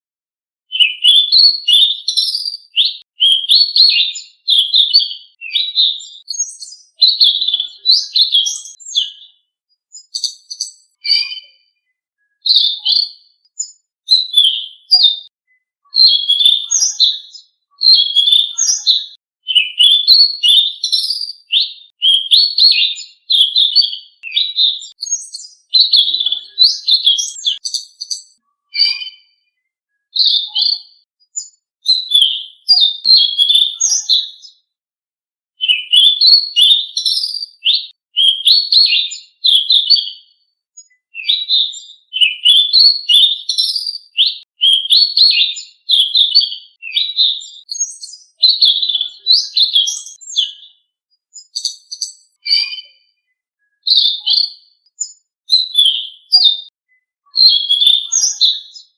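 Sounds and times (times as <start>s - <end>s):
songbird twittering: 0.7s - 29.5s, 30.1s - 34.6s, 40.8s - 50.8s, 51.4s - 58.9s.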